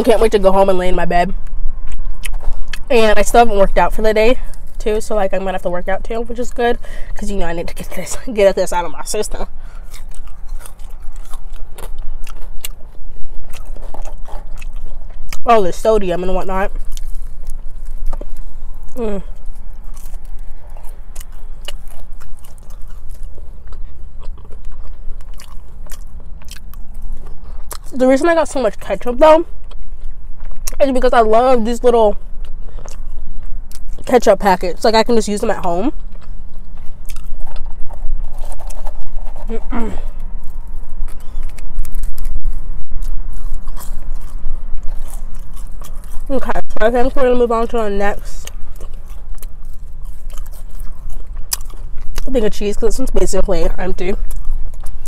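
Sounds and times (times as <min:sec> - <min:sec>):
steady low rumble: 0:00.0 - 0:55.0
person chewing fries: 0:01.4 - 0:03.4, 0:08.7 - 0:28.0, 0:29.4 - 0:30.8, 0:31.8 - 0:34.2, 0:35.2 - 0:53.0, 0:53.6 - 0:55.0.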